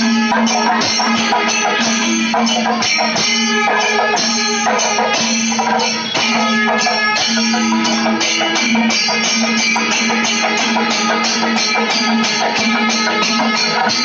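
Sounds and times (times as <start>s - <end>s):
cymbals clashing: 0.0s - 14.0s
hand drums: 0.0s - 14.0s.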